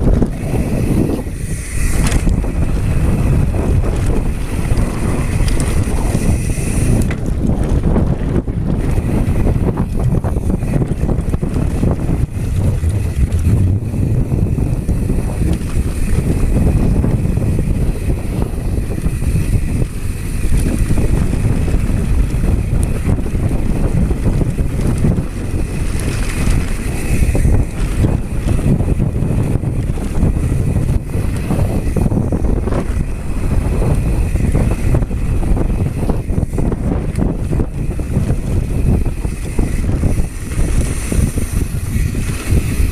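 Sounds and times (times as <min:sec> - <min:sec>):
bike clattering and knocking: 0:00.0 - 0:42.9
wind buffeting microphone: 0:00.0 - 0:42.9
tyres rumbling on loose ground: 0:07.0 - 0:42.9.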